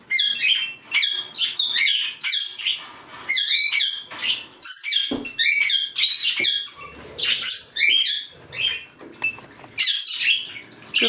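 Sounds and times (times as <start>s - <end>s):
small parrots chirping and calling: 0.0s - 11.0s.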